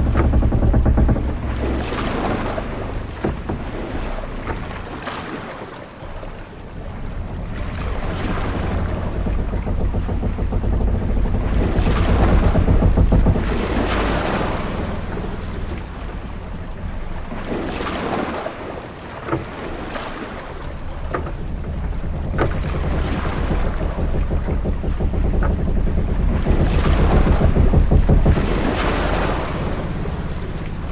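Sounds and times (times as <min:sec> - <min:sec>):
short knocks: 0:00.0 - 0:05.2, 0:06.0 - 0:18.7, 0:19.3 - 0:30.9
low rumble of wind: 0:00.0 - 0:30.9.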